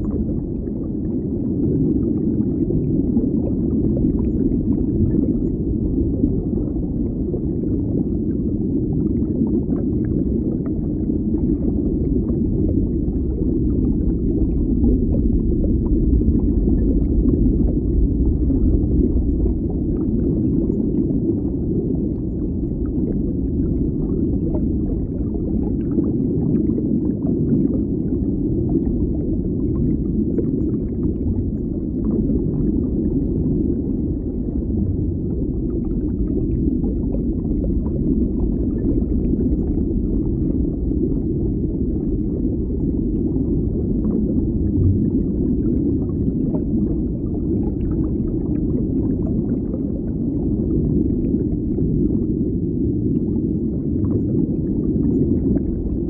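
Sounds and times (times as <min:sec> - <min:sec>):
low muffled underwater rumble: 0:00.0 - 0:56.0.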